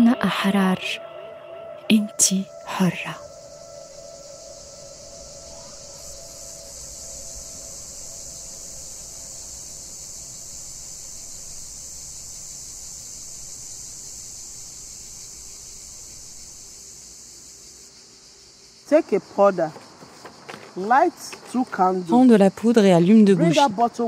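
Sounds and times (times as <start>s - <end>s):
insect chorus chirring: 0.0s - 24.0s.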